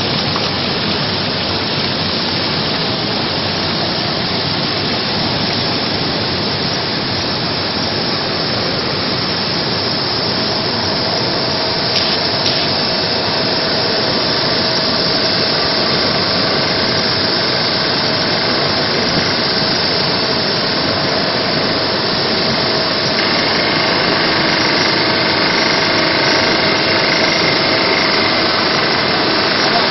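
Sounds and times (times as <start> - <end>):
faint steady hum: 0.0 - 29.9
washing machine motor churning: 0.0 - 29.9.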